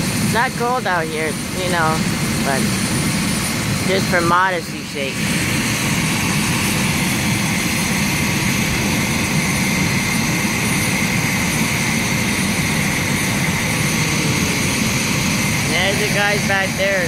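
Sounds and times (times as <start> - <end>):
engine drone with whine: 0.0 - 17.0.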